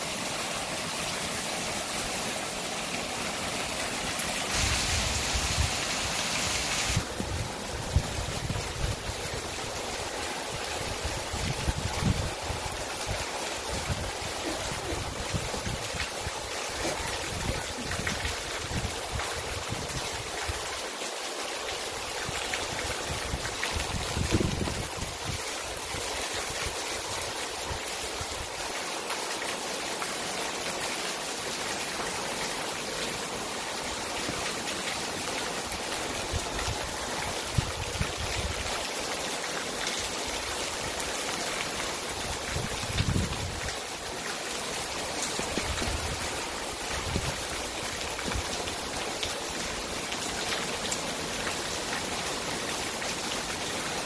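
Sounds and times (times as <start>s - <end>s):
heavy rain downpour: 0.0s - 54.0s
water pouring off roof edge: 0.0s - 54.0s.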